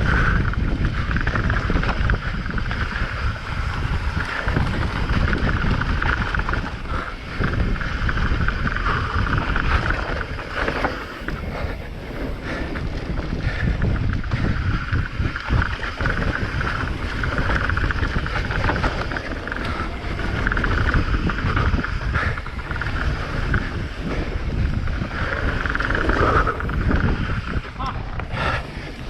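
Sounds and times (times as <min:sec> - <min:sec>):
mountain bike rumbling and rattling: 0:00.0 - 0:29.0
wind buffeting microphone: 0:00.0 - 0:29.0.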